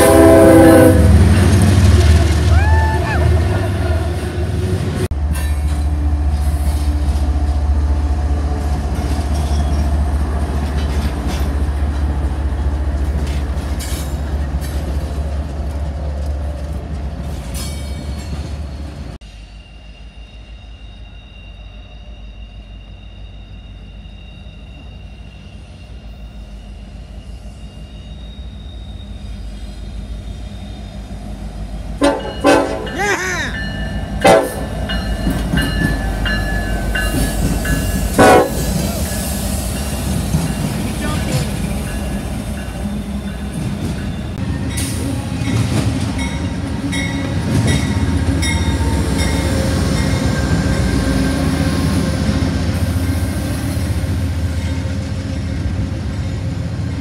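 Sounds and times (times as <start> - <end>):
diesel freight train rumbling: 0.0 - 57.0
distant freight train rumble: 0.0 - 57.0.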